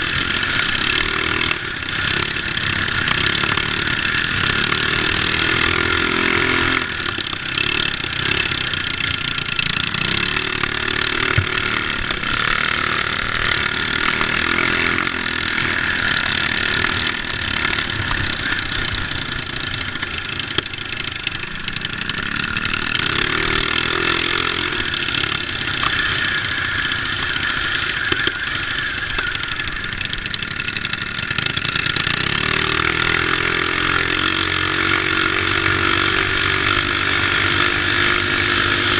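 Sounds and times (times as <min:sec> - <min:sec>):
mini bike engines racing: 0:00.0 - 0:38.9.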